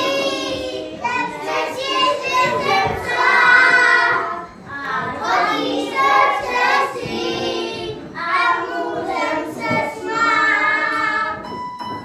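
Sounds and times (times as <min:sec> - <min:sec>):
young children singing: 0:00.0 - 0:11.6.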